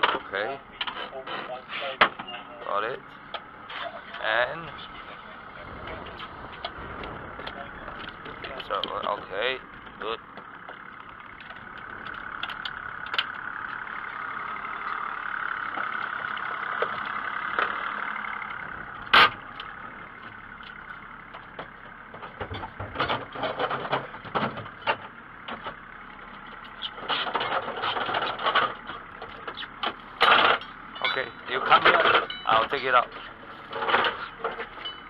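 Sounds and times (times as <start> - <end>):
boat engine idling: 0.0 - 35.0
anchor chain clanking and rattling: 2.8 - 35.0.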